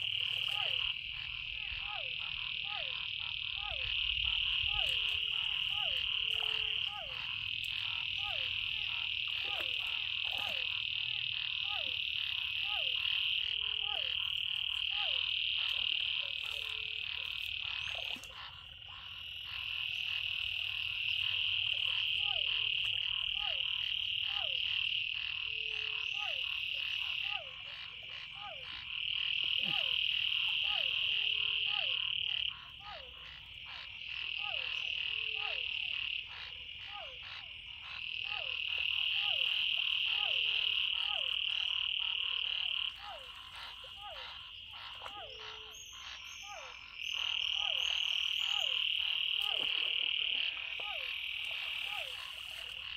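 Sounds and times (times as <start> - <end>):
downward-sliding frog calls: 0.0 - 52.9
frogs trilling: 0.0 - 52.9.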